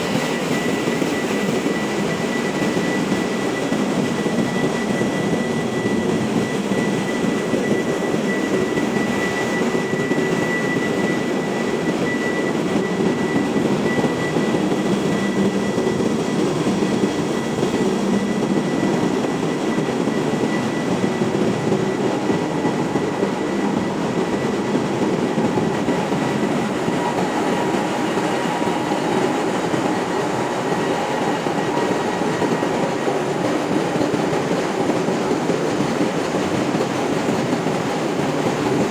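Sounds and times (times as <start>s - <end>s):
engine room machinery running: 0.0s - 38.9s.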